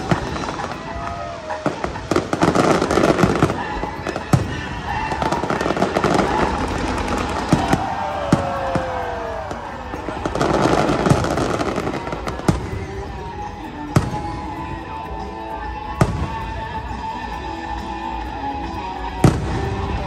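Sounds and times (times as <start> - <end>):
fireworks crackling: 0.0 - 20.0
music playing: 0.0 - 20.0.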